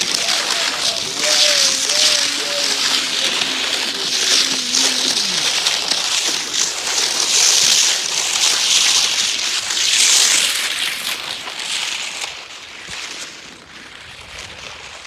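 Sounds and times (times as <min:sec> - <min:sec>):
skis swishing on snow: 0:00.0 - 0:15.0.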